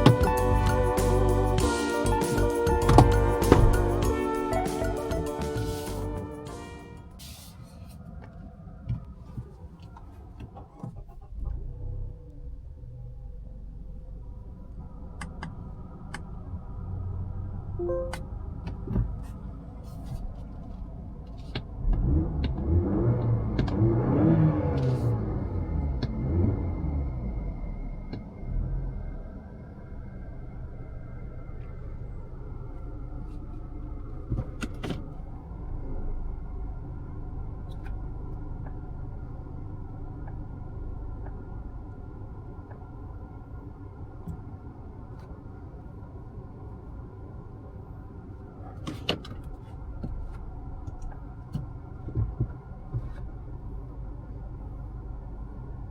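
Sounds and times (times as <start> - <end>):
car engine starting and idling: 0.0 - 55.9.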